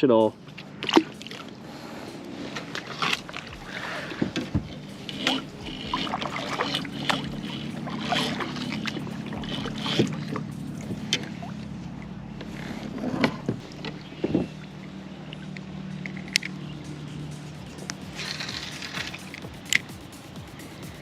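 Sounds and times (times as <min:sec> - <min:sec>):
light water sounds: 0:00.0 - 0:21.0
steady low hum: 0:00.0 - 0:21.0
gear knocking and clunking: 0:02.5 - 0:21.0.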